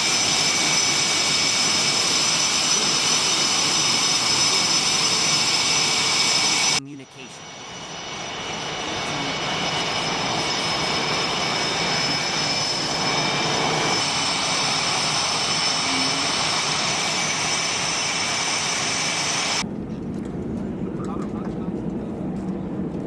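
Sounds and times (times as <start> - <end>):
jet engine rush with high whine: 0.0 - 23.0.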